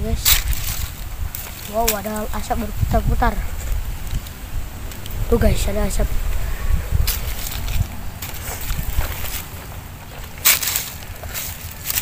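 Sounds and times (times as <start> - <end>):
wind buffeting microphone: 0.0 - 12.0
faint rustles: 0.1 - 12.0.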